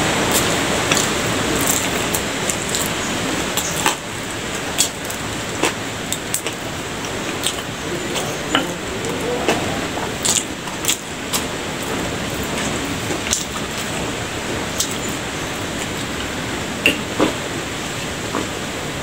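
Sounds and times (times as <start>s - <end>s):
eating clicks and crackles: 0.0s - 17.3s
steady background hiss: 0.0s - 19.0s.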